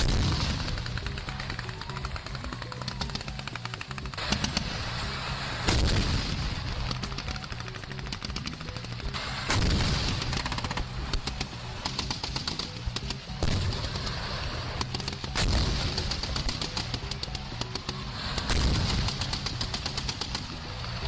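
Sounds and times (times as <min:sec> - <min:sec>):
machine-gun fire: 0:00.0 - 0:21.0.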